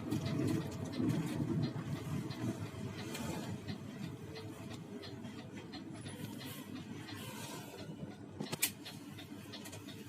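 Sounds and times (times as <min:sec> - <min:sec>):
coach cabin low rumble: 0:00.0 - 0:10.0.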